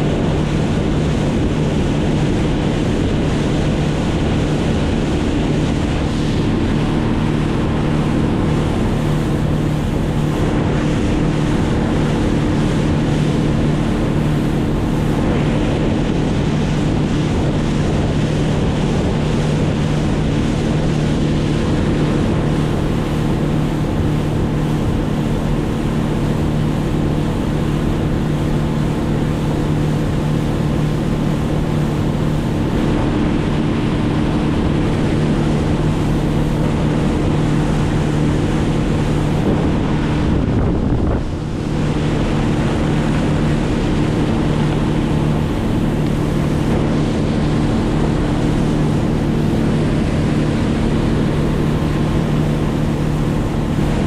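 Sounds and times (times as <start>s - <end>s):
engine running steadily: 0.0s - 54.0s
wind and water rushing: 0.0s - 54.0s.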